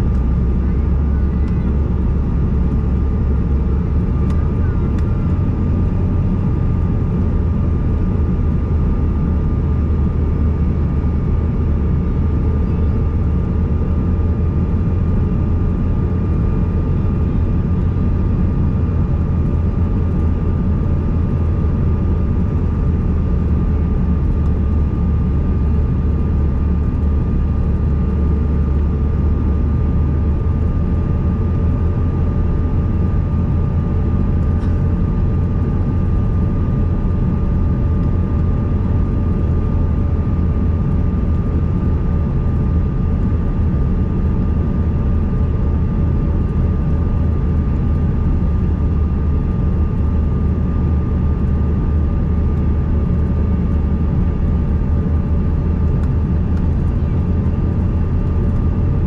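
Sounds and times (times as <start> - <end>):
jet engines droning: 0.0 - 59.0.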